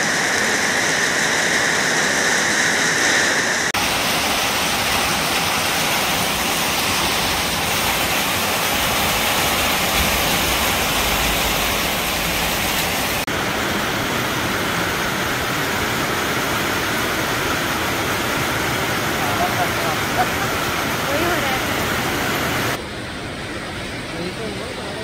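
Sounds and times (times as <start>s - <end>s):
heavy rain pouring: 0.0s - 22.8s.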